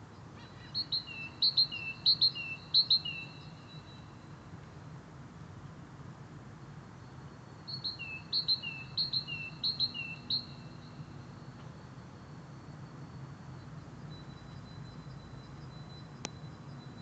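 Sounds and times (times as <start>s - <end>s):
songbird singing: 0.0s - 4.8s, 6.4s - 17.0s.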